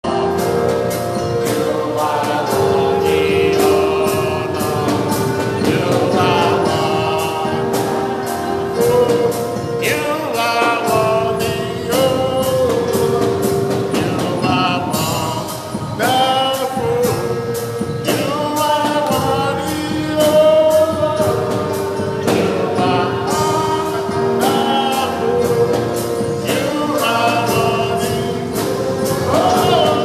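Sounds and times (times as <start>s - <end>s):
gospel singing: 0.0s - 30.0s
steady beat: 0.0s - 30.0s.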